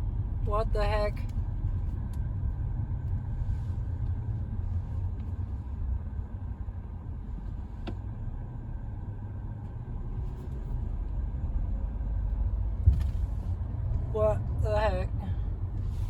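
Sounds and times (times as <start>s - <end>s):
car cabin engine rumble: 0.0s - 16.0s.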